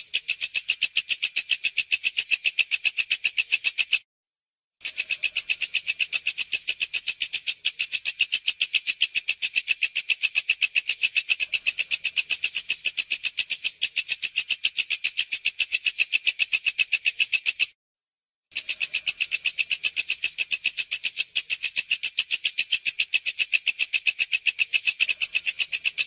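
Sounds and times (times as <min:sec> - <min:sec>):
bush cricket rapid ticking: 0:00.0 - 0:04.0, 0:04.8 - 0:17.7, 0:18.6 - 0:26.0.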